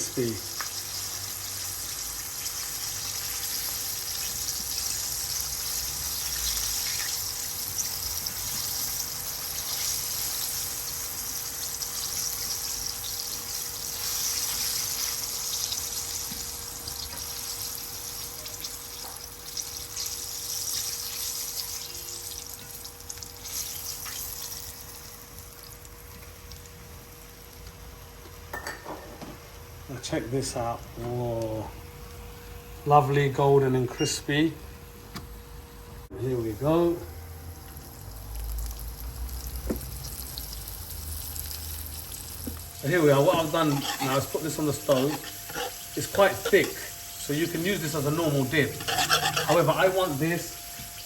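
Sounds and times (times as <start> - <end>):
chicken sizzling in hot oil: 0.0 - 27.6, 36.2 - 51.0.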